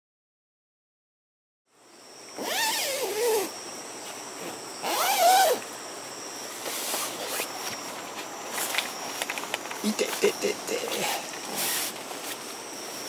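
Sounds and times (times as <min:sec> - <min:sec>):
high-pitched insect drone: 0:01.7 - 0:13.0.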